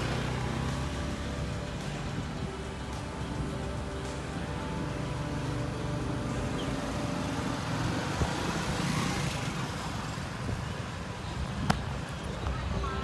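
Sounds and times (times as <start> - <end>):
motor vehicle passing: 0.0 - 12.2.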